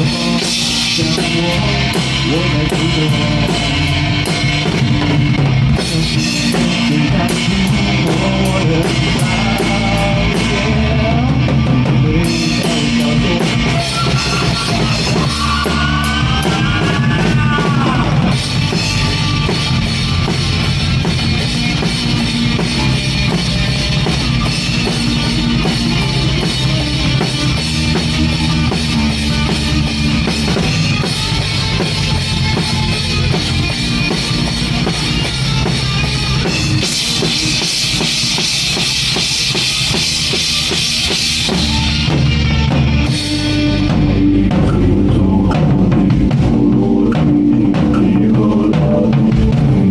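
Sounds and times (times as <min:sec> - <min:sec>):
bass drum beat: 0:00.0 - 0:49.9
live rock band playing: 0:00.0 - 0:49.9.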